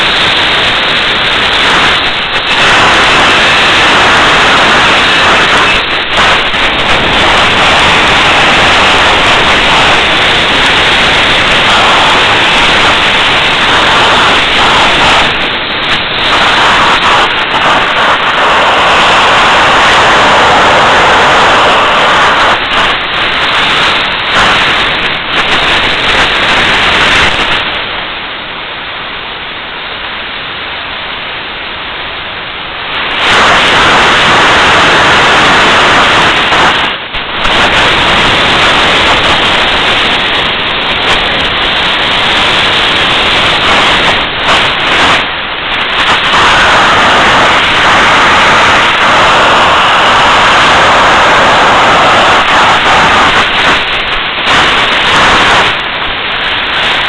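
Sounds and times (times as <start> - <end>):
jet engine roaring: 0.0 - 57.0.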